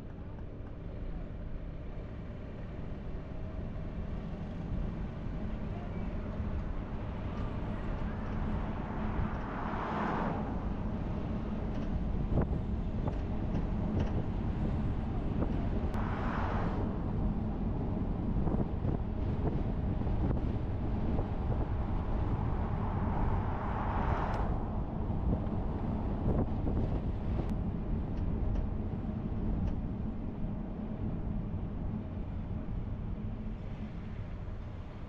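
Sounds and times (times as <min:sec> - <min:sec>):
vehicle rumble: 0:00.0 - 0:35.0
wind on microphone: 0:06.3 - 0:34.4.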